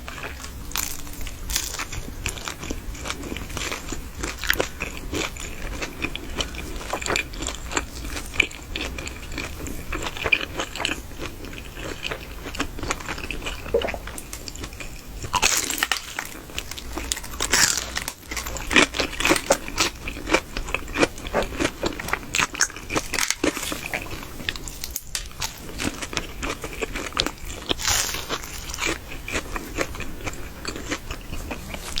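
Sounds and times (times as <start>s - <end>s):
crunchy bites and chewing: 0.1s - 32.0s.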